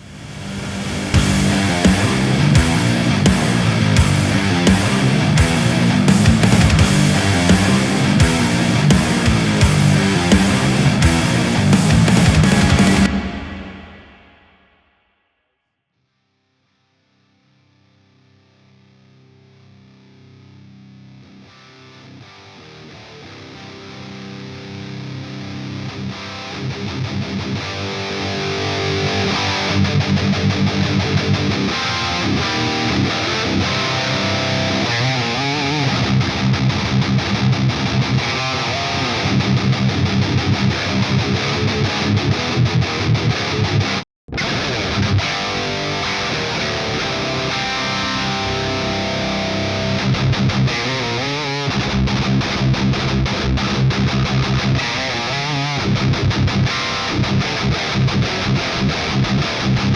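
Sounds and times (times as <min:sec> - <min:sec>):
distorted electric guitar riffs: 0:00.0 - 0:14.6, 0:18.1 - 0:59.9.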